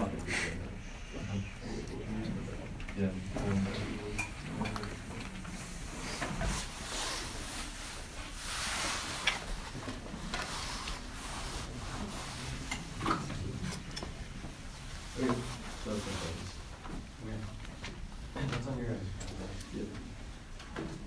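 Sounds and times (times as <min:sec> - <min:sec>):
rustling and handling noise: 0:02.6 - 0:21.0.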